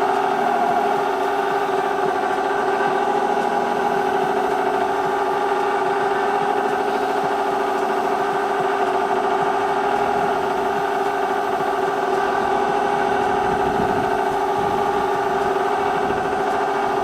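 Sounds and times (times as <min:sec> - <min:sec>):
mill motor whining: 0:00.0 - 0:17.0.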